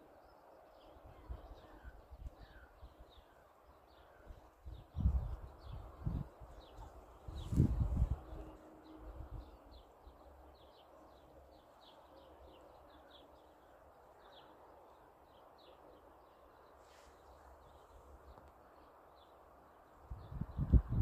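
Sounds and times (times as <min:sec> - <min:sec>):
faint outdoor hush: 0:00.0 - 0:20.1.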